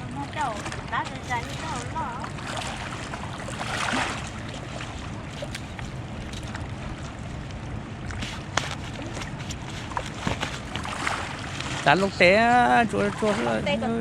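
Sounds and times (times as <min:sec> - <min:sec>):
low rumble of wind: 0:00.0 - 0:14.0
water around boat: 0:00.0 - 0:14.0.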